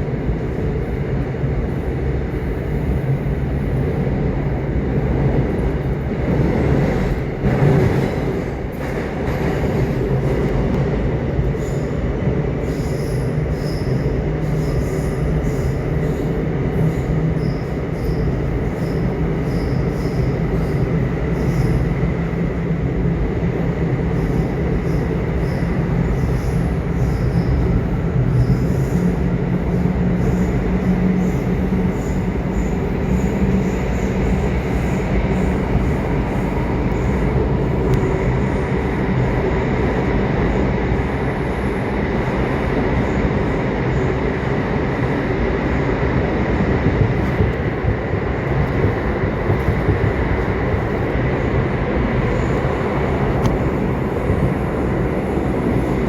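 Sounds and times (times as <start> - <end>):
subway train rumbling on track: 0.0 - 56.0.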